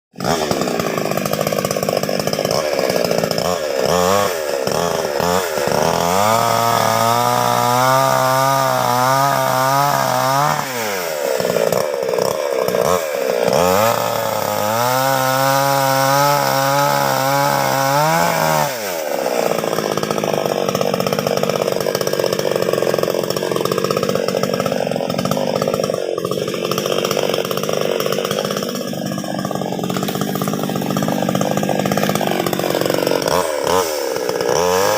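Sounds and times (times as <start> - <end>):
chainsaw cutting branch: 0.1 - 34.9.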